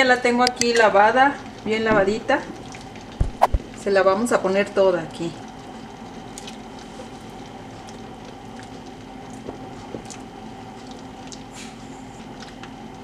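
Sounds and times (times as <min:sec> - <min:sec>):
pot boiling: 0:00.0 - 0:13.0.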